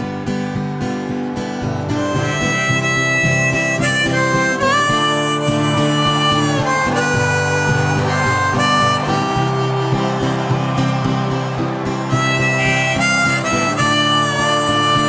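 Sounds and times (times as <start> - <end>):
harmonica melody: 0.0 - 15.0
strummed acoustic guitar: 0.0 - 15.0.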